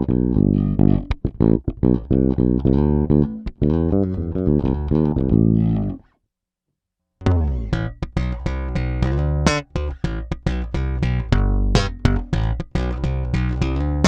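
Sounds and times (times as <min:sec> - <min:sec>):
electric bass plucked notes: 0:00.0 - 0:06.1, 0:07.2 - 0:14.0.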